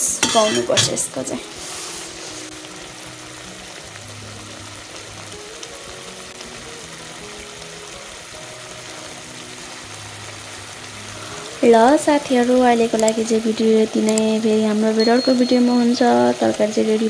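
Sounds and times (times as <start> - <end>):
food sizzling in a pan: 0.0 - 17.0
soft slow background music: 0.0 - 17.0.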